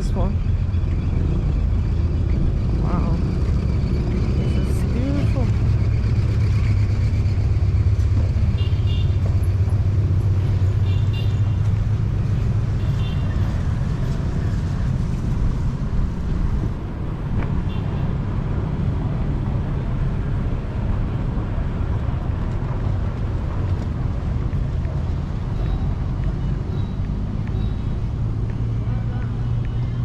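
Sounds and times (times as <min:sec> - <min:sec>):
moving vehicle rumble: 0:00.0 - 0:30.0
road noise: 0:00.0 - 0:30.0.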